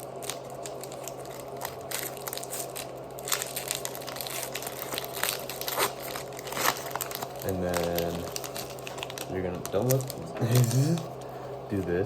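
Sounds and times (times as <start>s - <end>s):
foil wrapper crinkling: 0.0s - 12.0s
steady low hum: 0.0s - 12.0s.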